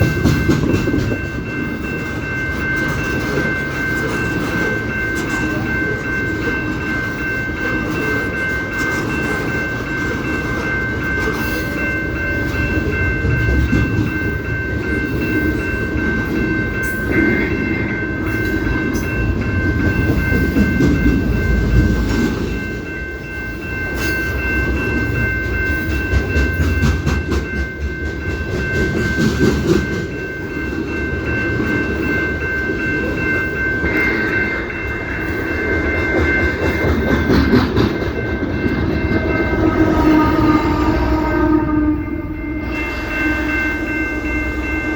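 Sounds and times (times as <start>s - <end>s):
train cars clacking over rails: 0.0s - 41.8s.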